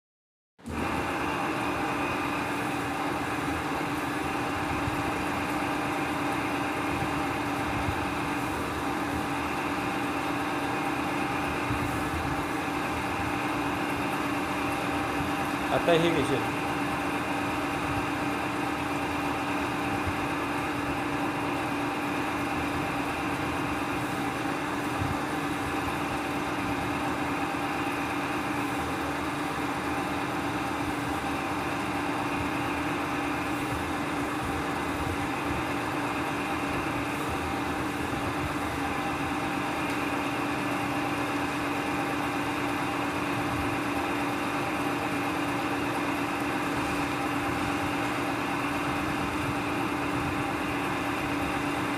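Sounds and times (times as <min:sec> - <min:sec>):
steady machine hum: 0:00.6 - 0:51.9.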